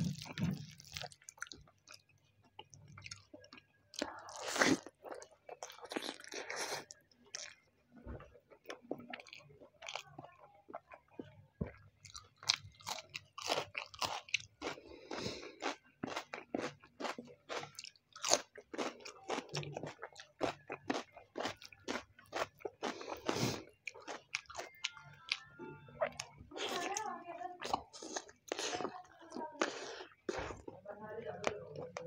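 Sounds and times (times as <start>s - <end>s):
person chewing food: 0.0s - 30.8s.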